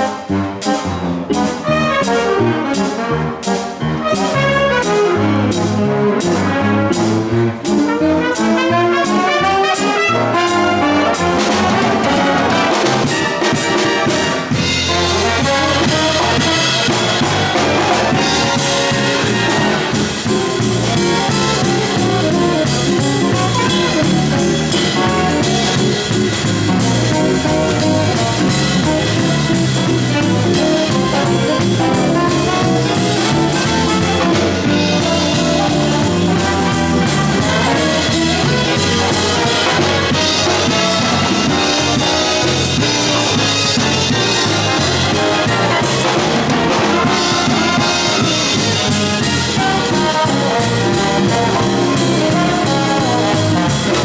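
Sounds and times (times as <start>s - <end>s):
jazz big band playing: 0.0s - 54.0s.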